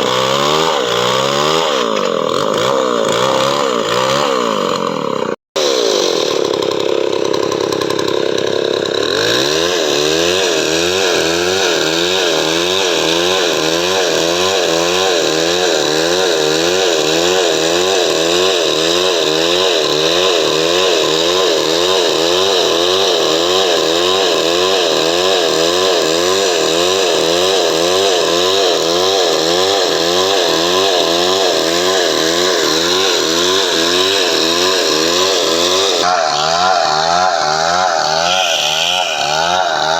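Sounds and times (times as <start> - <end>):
chainsaw sawing wood: 0.0 - 39.9.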